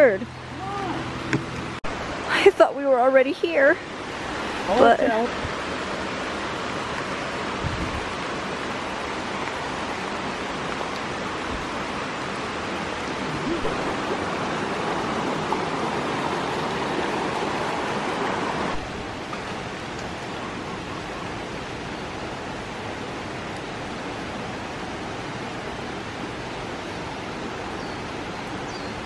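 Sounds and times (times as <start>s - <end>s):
fast-flowing stream: 0.0s - 29.0s.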